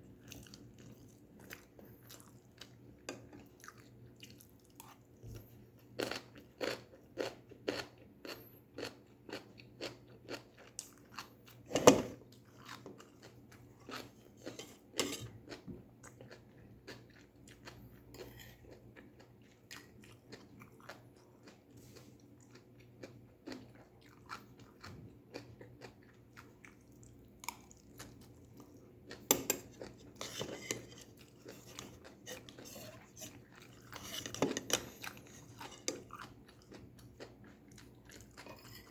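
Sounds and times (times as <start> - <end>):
person chewing crunchy vegetables: 0.2 - 38.9.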